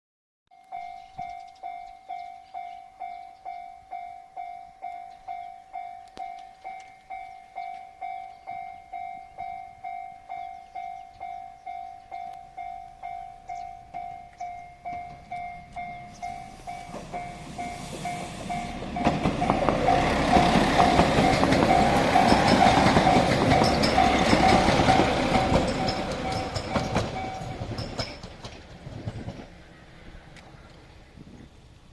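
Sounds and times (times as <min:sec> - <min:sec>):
train passing at speed: 0:02.6 - 0:31.9.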